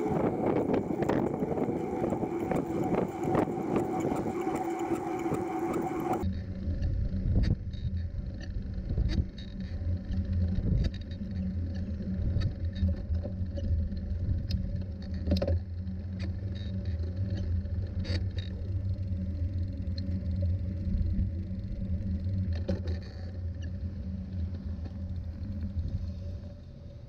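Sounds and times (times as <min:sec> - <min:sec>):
trike rolling rumble: 0:00.0 - 0:27.0.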